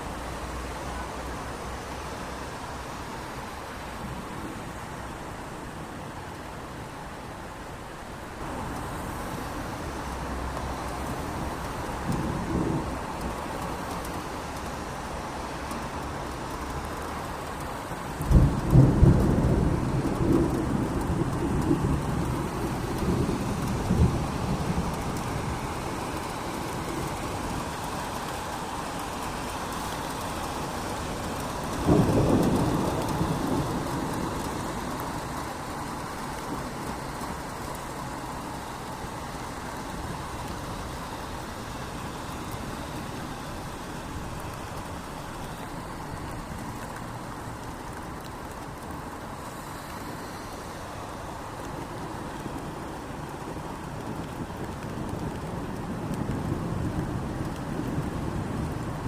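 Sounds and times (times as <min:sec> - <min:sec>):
steady rain falling: 0:00.0 - 0:59.0
thunder clap and rumble: 0:08.6 - 0:48.9, 0:51.6 - 0:59.0.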